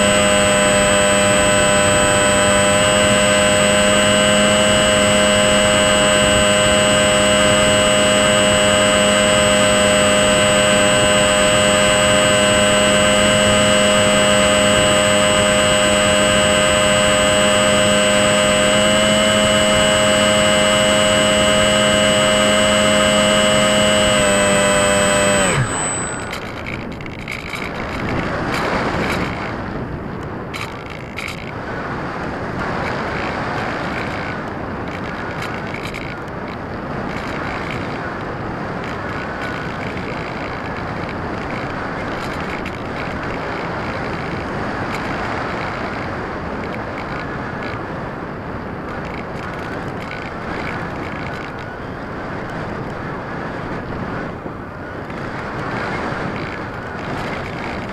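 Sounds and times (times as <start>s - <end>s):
model plane motor whining: 0.0s - 57.9s
wind rushing over microphone: 0.0s - 57.9s.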